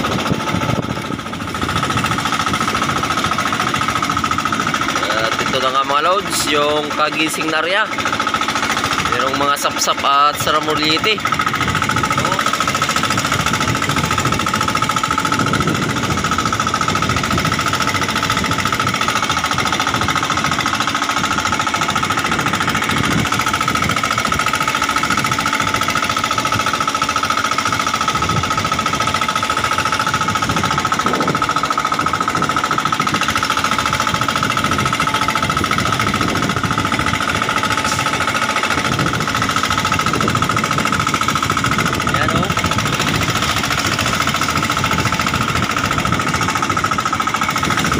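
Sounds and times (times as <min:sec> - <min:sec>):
boat engine pounding: 0:00.0 - 0:47.9.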